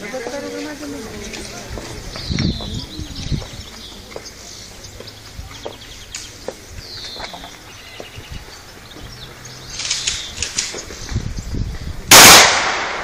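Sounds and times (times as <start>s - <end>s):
songbirds chirping: 0.0s - 12.1s.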